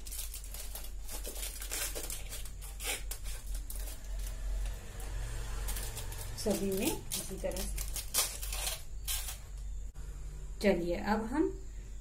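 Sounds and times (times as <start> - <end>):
aluminium foil crinkling: 0.0 - 9.6
steady low hum: 0.1 - 12.0.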